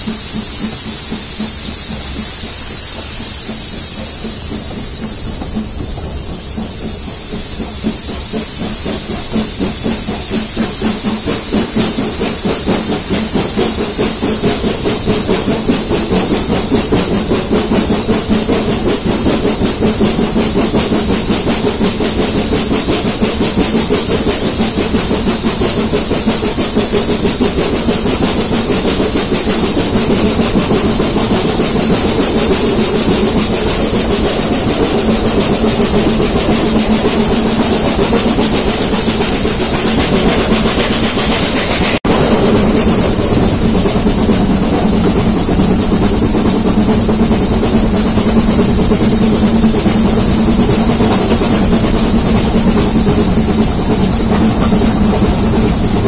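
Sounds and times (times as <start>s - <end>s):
steady steam hiss: 0.0s - 56.0s
steam locomotive exhaust beats: 0.0s - 56.0s
train wheels on rails: 0.0s - 56.0s.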